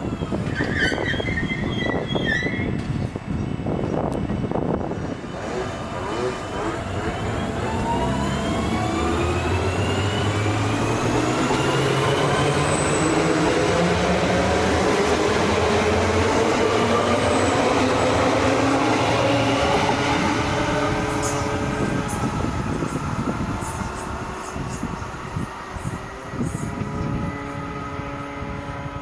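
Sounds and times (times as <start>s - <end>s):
electric train motors whining: 4.6s - 29.0s.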